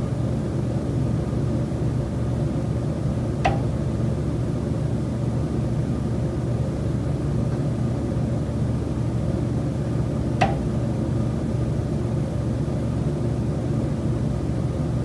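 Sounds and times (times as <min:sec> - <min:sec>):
low mechanical rumble and hum: 0:00.0 - 0:15.0.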